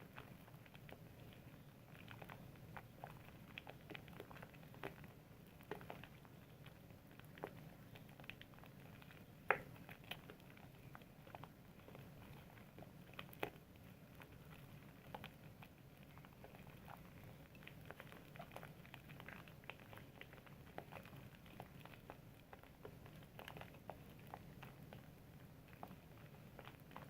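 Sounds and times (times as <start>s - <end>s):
low background hum: 0.0s - 27.0s
soap lathering crackles: 0.0s - 27.0s.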